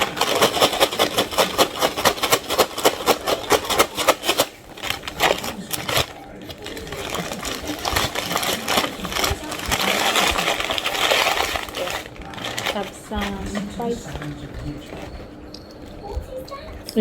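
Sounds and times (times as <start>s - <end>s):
paper bag rustling: 0.0s - 15.3s.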